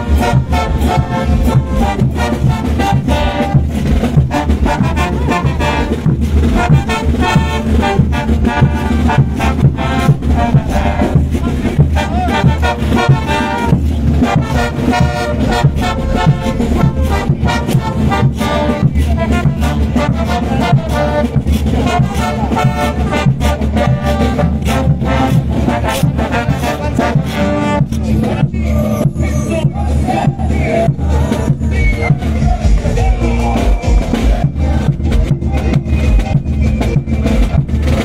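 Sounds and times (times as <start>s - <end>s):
bass drum beat: 0.0s - 38.0s
cymbals: 0.0s - 38.0s
trombones: 0.0s - 38.0s
trumpets: 0.0s - 38.0s
tubas: 0.0s - 38.0s.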